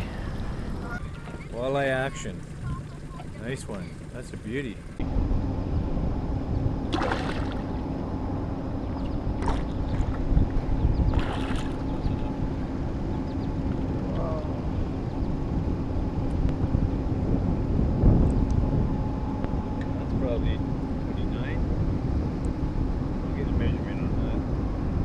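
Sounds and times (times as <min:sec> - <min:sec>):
outboard motor running: 0:00.0 - 0:25.0
wind on microphone: 0:05.0 - 0:25.0.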